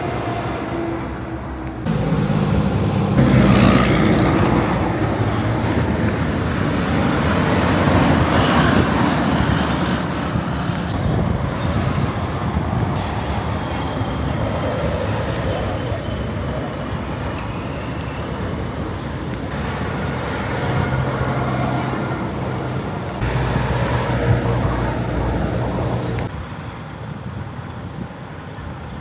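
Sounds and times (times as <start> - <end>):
heavy trucks driving past: 0.0 - 27.0.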